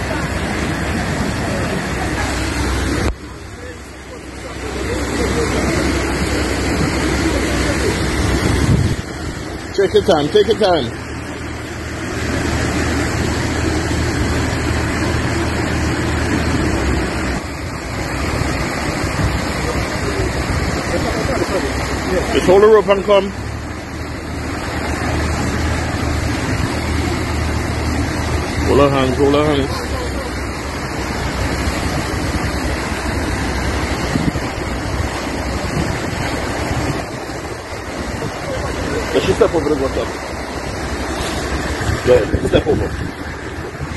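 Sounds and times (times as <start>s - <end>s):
floodwater rushing and splashing: 0.0s - 43.9s
wind buffeting microphone: 0.0s - 43.9s.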